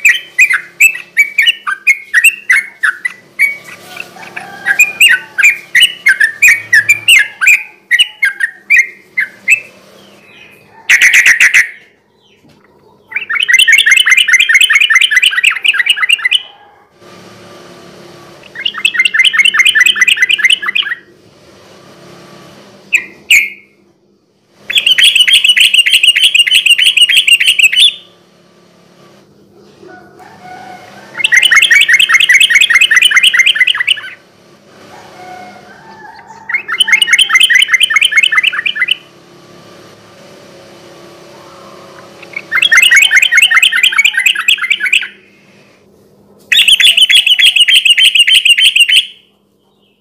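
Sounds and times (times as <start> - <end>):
bird singing: 0.0 - 16.7, 18.5 - 21.2, 22.9 - 28.2, 29.3 - 34.3, 35.0 - 39.2, 41.3 - 45.5, 46.5 - 50.0.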